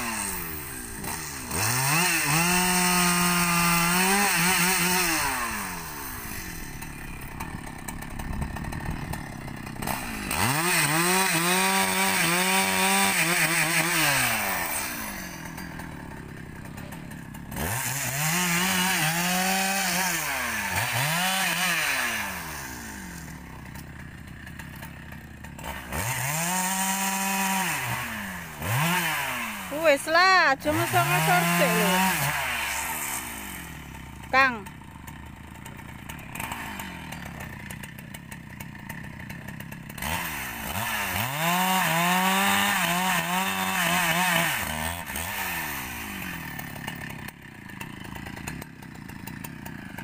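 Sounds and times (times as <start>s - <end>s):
chainsaw revving and idling: 0.0s - 50.0s.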